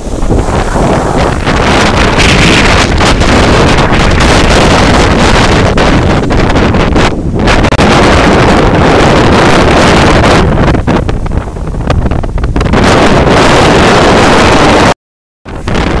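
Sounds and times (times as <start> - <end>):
surf breaking on beach: 0.0 - 14.9, 15.5 - 16.0
strong wind buffeting microphone: 0.0 - 16.0.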